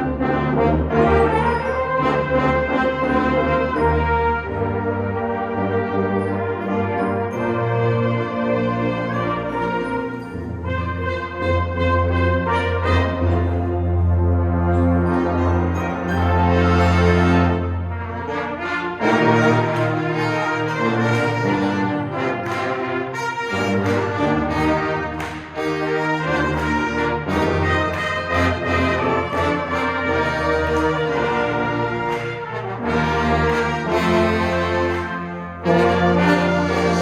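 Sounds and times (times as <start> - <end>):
brass band playing chords: 0.0 - 37.0.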